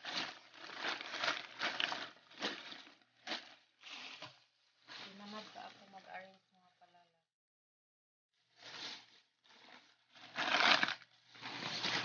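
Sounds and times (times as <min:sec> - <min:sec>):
plastic bag rustling: 0:00.0 - 0:06.4, 0:08.4 - 0:12.0.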